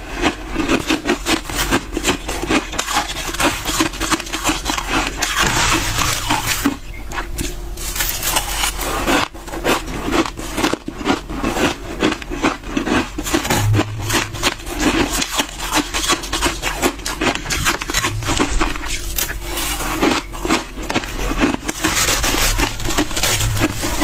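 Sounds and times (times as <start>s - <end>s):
freezer frost crunching: 0.0s - 24.0s.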